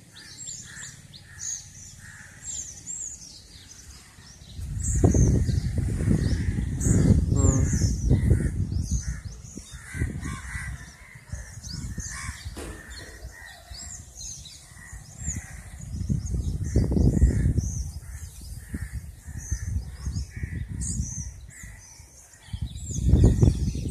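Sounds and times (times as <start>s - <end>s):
birds chirping: 0.0s - 23.9s
low microphone rumbles: 3.6s - 23.9s.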